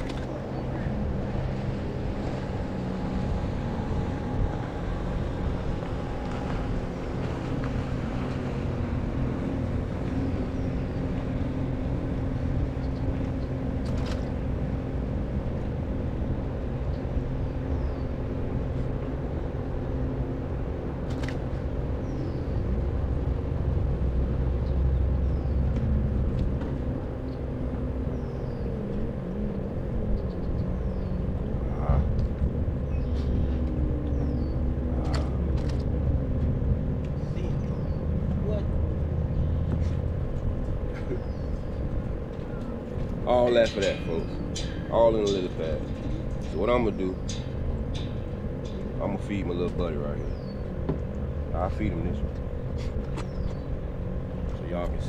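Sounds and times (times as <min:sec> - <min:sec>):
low engine-like hum: 0:00.0 - 0:55.0.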